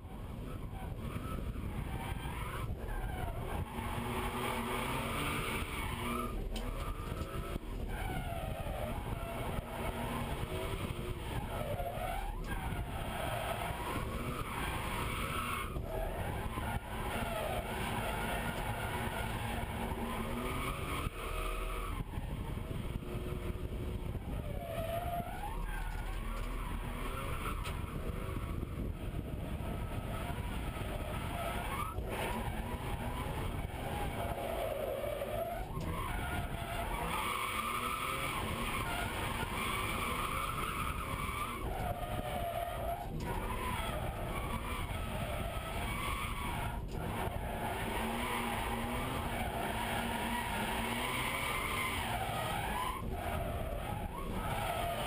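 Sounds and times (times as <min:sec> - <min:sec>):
car engine revving: 0:00.0 - 0:55.0
tyres skidding: 0:00.0 - 0:55.0.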